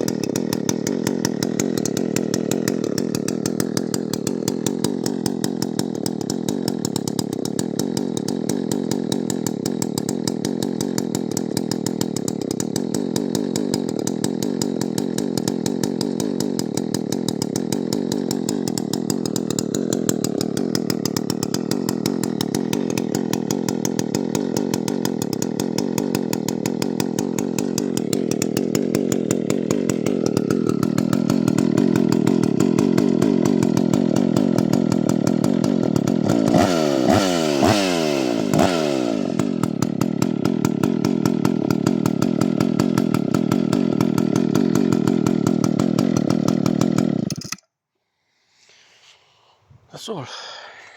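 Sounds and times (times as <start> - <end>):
chainsaw running: 0.0 - 47.7, 48.3 - 50.9.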